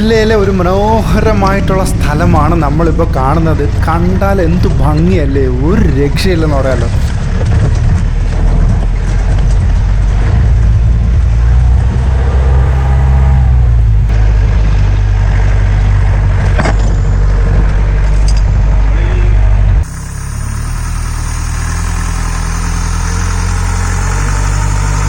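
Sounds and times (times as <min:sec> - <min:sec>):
engine low drone: 0:00.0 - 0:25.0.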